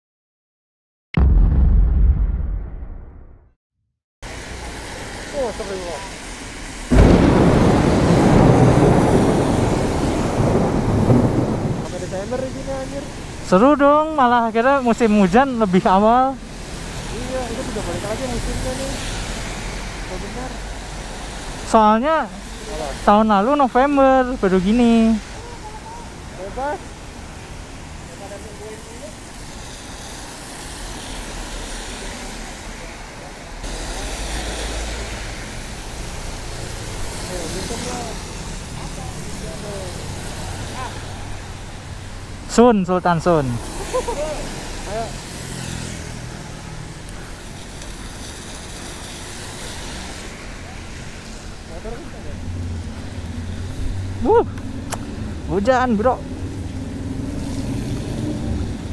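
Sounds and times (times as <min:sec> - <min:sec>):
traffic rumble: 0:04.2 - 0:58.9
tyres hissing on wet road: 0:04.2 - 0:58.9
wind and rain on microphone: 0:04.2 - 0:58.9.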